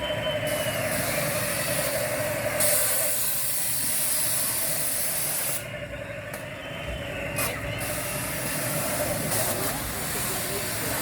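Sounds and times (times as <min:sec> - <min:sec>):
ride machinery humming: 0:00.0 - 0:11.0.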